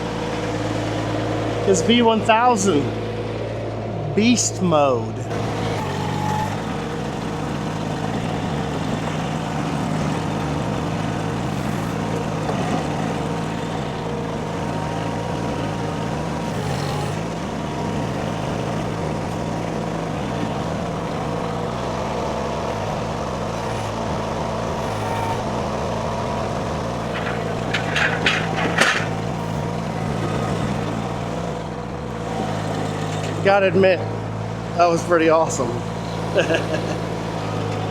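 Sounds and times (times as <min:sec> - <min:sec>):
skid steer engine running: 0:00.0 - 0:37.9.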